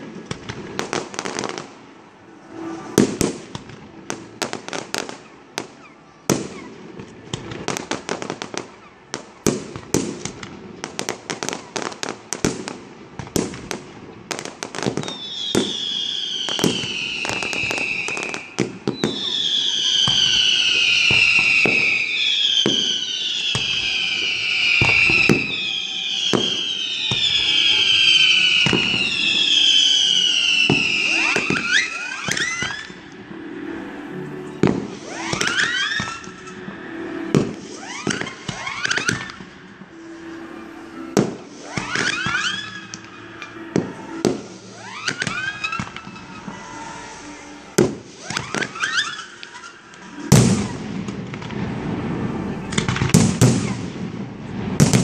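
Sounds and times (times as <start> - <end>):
firework bangs and crackling: 0.0 - 55.0
whistling fireworks: 0.0 - 55.0.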